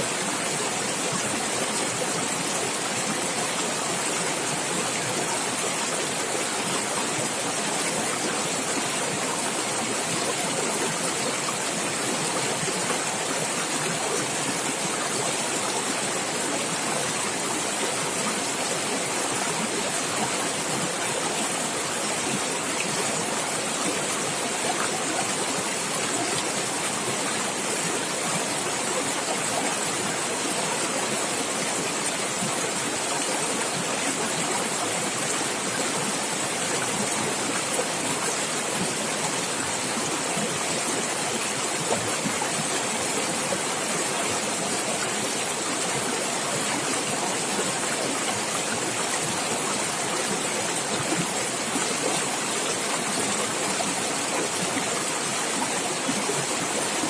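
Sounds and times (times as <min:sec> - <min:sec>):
running water splashing and gurgling: 0:00.0 - 0:57.0.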